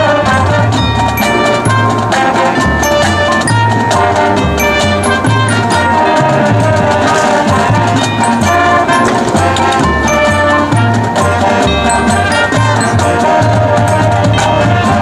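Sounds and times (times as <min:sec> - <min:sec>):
drum and percussion hits: 0:00.0 - 0:15.0
marching band playing: 0:00.0 - 0:15.0.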